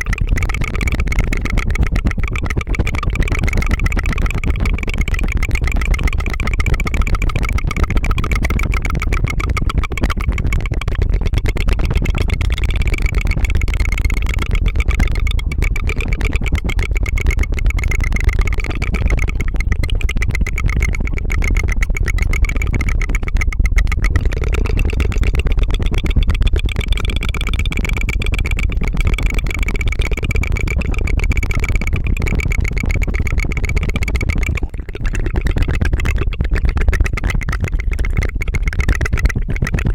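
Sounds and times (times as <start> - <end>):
tongue trill: 0.0 - 39.9.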